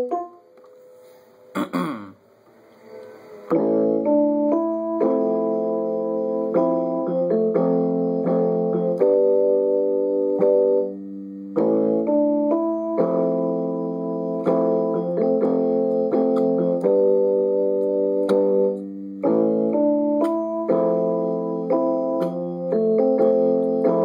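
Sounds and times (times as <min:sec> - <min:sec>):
electronic keyboard piano chords: 0:00.0 - 0:01.6, 0:03.0 - 0:24.0.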